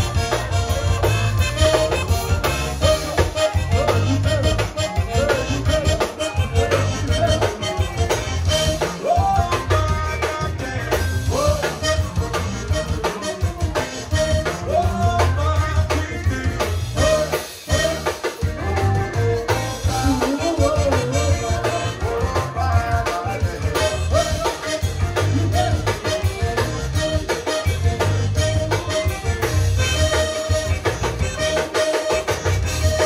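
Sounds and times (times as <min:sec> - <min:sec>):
band music: 0:00.0 - 0:33.0.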